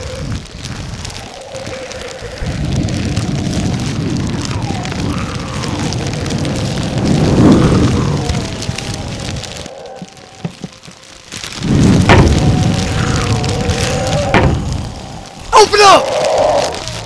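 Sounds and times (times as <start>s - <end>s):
fire crackling roar: 0.0s - 17.0s.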